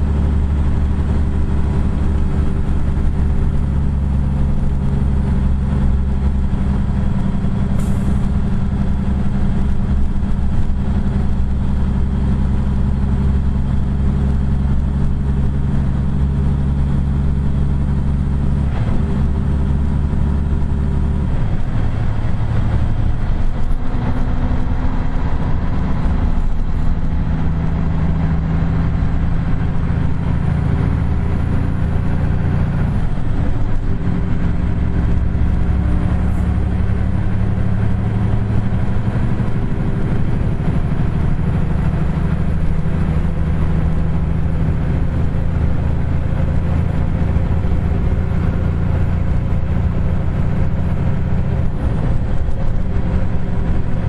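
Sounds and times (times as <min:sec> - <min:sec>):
diesel truck engine droning: 0:00.0 - 0:54.0.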